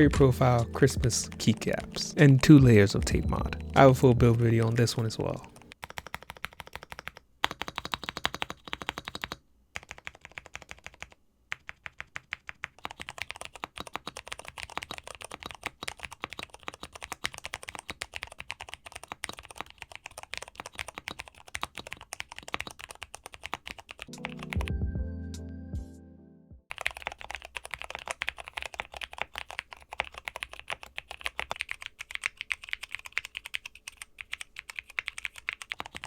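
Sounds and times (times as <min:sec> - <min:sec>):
fast typing on mechanical keyboard: 0:04.6 - 0:24.7, 0:26.7 - 0:36.0.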